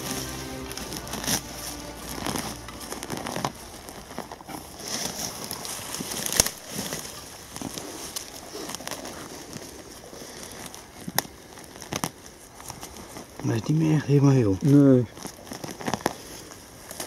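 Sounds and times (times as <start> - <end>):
dry leaves rustling: 0.0 - 17.0.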